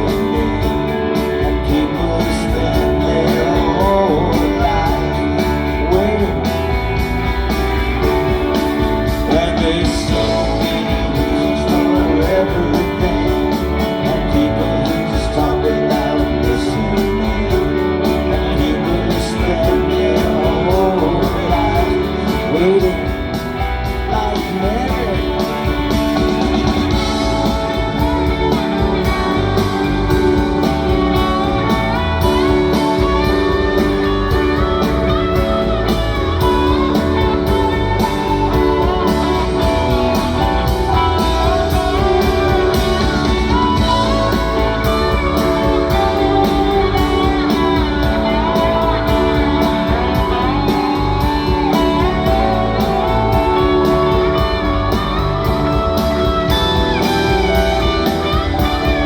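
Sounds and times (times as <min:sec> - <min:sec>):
drum beat: 0:00.0 - 0:59.0
electric guitars: 0:00.0 - 0:59.0.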